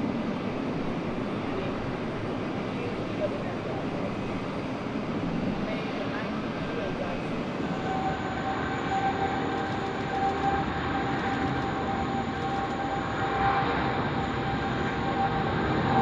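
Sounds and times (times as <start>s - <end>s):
jet engine whine: 0.0s - 16.0s
jet engines roaring: 0.0s - 16.0s.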